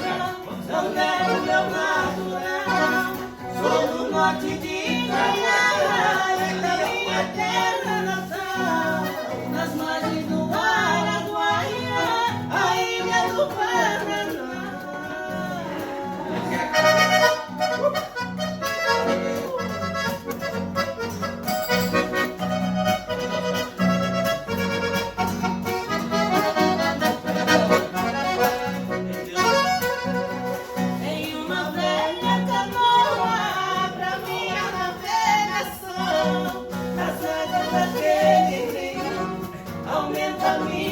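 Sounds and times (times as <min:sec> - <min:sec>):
accordion playing lively melody: 0:00.0 - 0:40.9.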